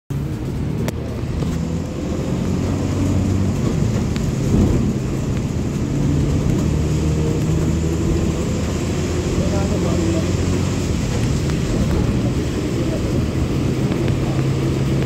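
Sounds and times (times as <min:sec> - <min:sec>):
tyre noise on wet road: 0:00.1 - 0:15.0
vehicle engine drone: 0:00.1 - 0:15.0.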